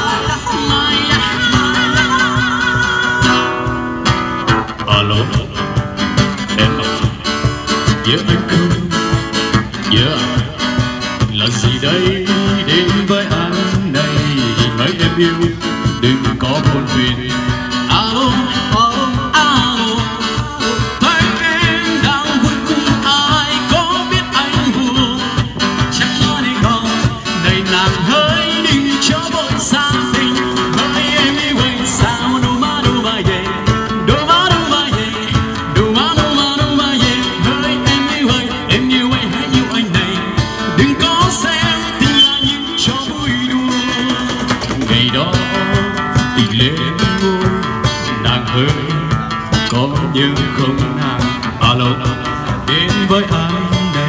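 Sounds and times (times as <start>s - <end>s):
man singing into microphone: 0.0s - 3.6s, 4.6s - 5.8s, 6.4s - 54.0s
acoustic guitars strummed: 0.0s - 54.0s
box drum beat: 0.0s - 54.0s.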